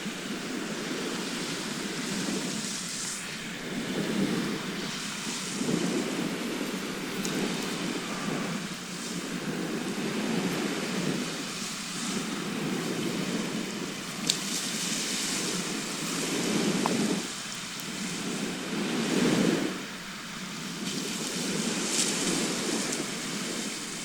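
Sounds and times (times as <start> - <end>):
sea waves washing on shore: 0.0 - 24.0.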